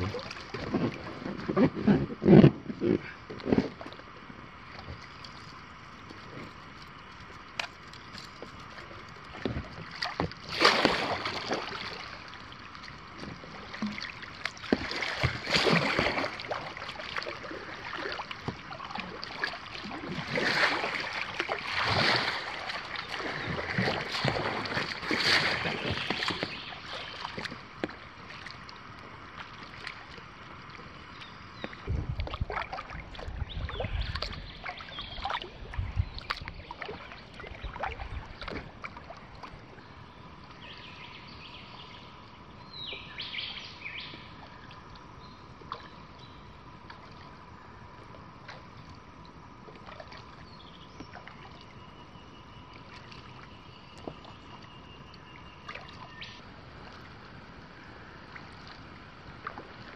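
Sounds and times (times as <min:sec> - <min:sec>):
paddle splashing in water: 0:00.0 - 0:42.0, 0:42.8 - 0:59.9.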